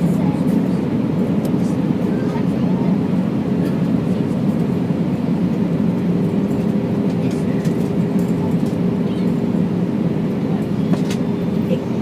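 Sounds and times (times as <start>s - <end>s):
airliner cabin drone: 0.0s - 12.0s
steady hum: 0.0s - 12.0s.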